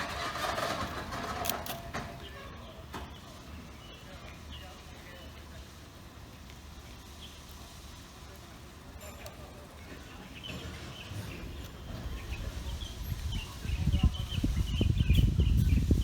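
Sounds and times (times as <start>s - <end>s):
low uneven rumble: 0.0s - 16.0s
small birds chirping: 2.1s - 16.0s.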